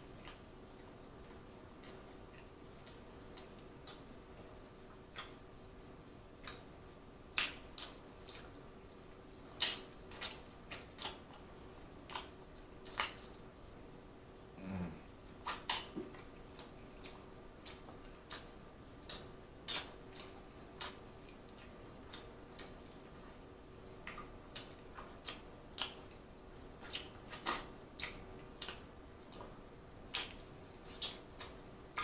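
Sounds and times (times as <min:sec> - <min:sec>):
chewing with wet mouth smacks: 0:00.0 - 0:05.4, 0:06.4 - 0:13.5, 0:15.2 - 0:32.0.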